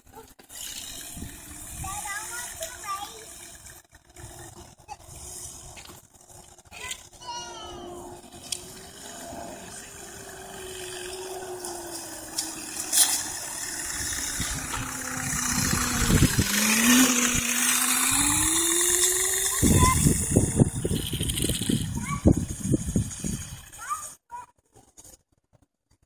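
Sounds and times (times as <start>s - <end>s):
electric dirt bike motor whine: 0.4s - 23.8s.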